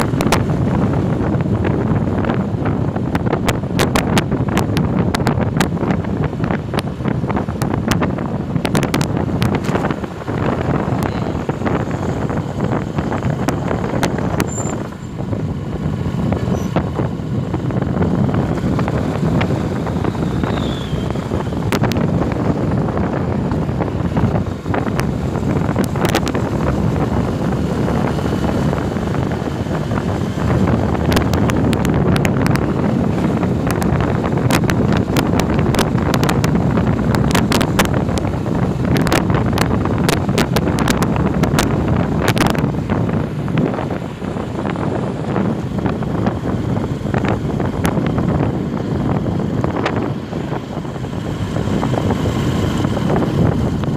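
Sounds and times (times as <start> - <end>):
motorcycle engine and road noise: 0.0 - 53.9
wind buffeting crackles: 0.0 - 53.9
wind rushing over microphone: 0.0 - 53.9.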